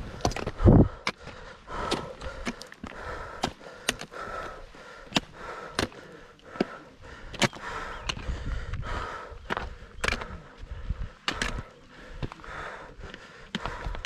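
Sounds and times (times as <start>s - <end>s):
boots stepping on rocky path: 0.0s - 14.0s
person breathing: 0.0s - 14.0s.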